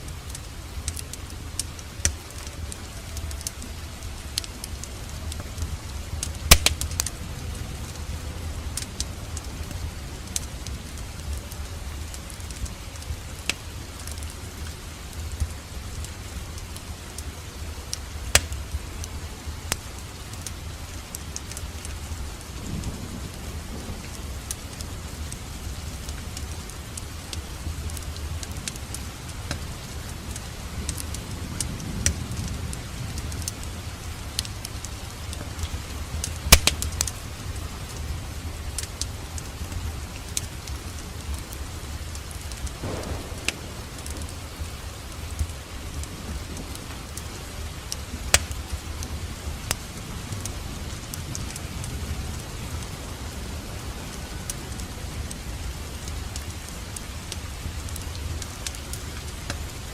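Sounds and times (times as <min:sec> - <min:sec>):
fire flames rumbling: 0:00.0 - 0:59.9
fire pops and crackles: 0:00.0 - 0:59.9.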